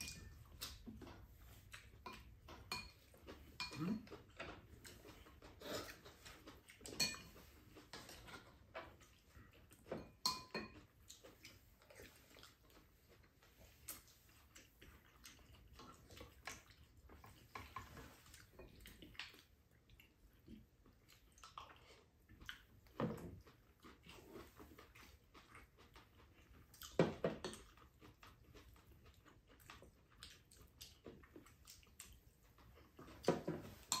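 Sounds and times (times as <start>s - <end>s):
chewing: 0.0s - 34.0s.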